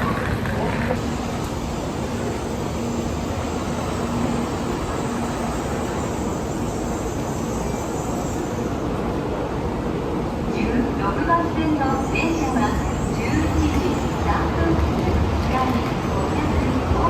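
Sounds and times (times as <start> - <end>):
train rumble and hiss: 0.0 - 17.0.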